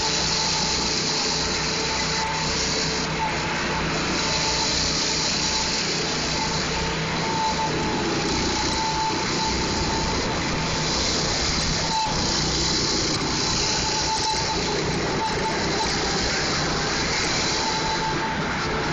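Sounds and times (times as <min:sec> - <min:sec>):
go-kart engine drone: 0:00.0 - 0:18.9.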